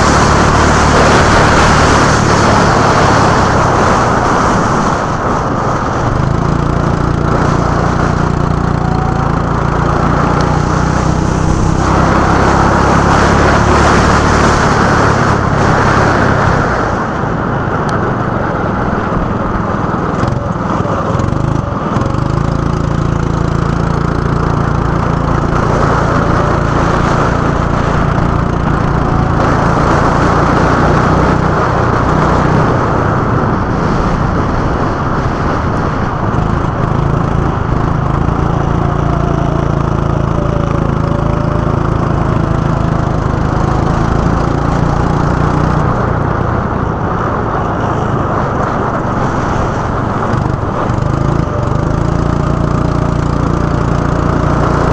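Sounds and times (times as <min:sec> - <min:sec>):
go-kart engine running: 0:00.0 - 0:54.9.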